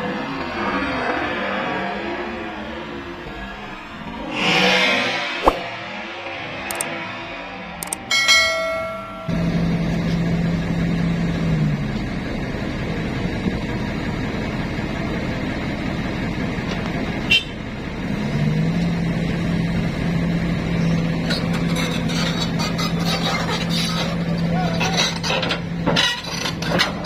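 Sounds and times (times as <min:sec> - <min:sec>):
heavy engine running: 0:05.2 - 0:27.0.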